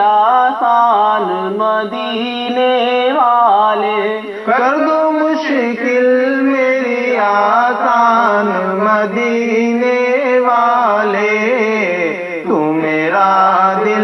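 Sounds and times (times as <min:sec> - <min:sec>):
two men singing unaccompanied: 0:00.0 - 0:14.0.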